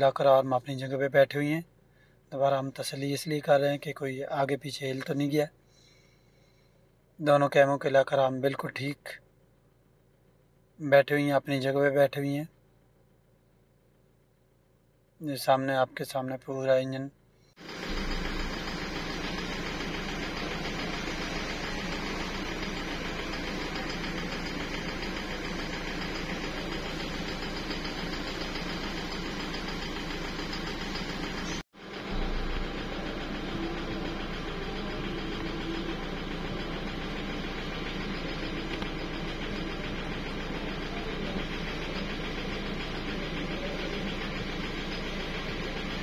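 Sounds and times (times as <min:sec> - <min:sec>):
engine idling: 0:00.0 - 0:46.0.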